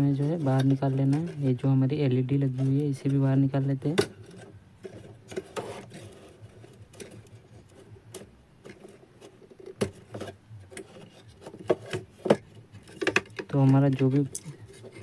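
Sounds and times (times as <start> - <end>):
plastic parts clicking and scraping: 0.0 - 1.8, 2.4 - 15.0.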